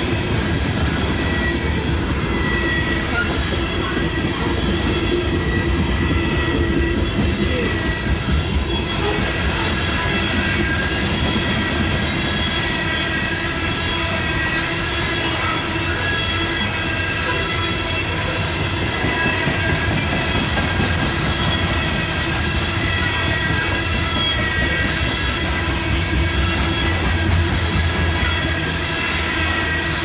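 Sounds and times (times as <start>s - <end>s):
steel wheels clattering on rail: 0.0s - 30.0s
wheels squealing: 0.0s - 30.0s.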